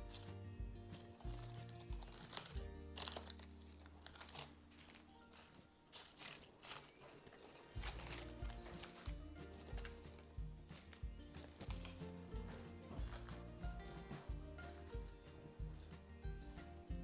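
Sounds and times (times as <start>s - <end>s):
background music with sustained notes: 0.0s - 17.0s
dry onion skins crinkling: 0.0s - 17.0s.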